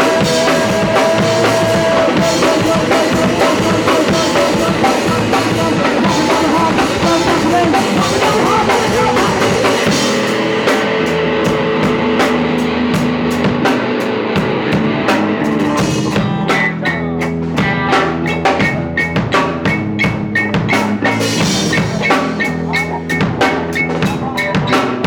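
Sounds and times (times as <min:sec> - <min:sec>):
drum kit beat: 0:00.0 - 0:25.0
electric guitar: 0:00.0 - 0:25.0.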